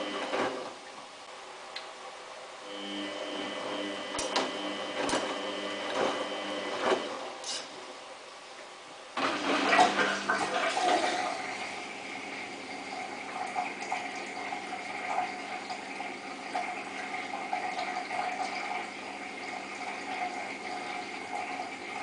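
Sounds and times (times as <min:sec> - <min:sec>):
washing machine water inflow: 0:00.0 - 0:01.4, 0:02.6 - 0:22.0.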